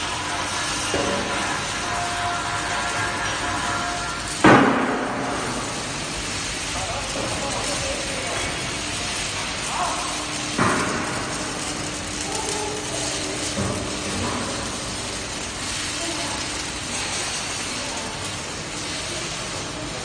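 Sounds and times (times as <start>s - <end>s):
arc welding: 0.0s - 20.0s
crackling: 0.0s - 20.0s
mechanical clattering: 0.0s - 20.0s
steady hiss: 0.0s - 20.0s.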